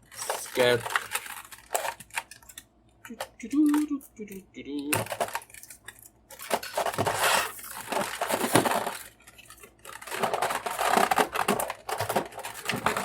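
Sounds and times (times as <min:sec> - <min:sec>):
plastic packaging crinkling: 0:00.0 - 0:02.6, 0:05.0 - 0:13.0.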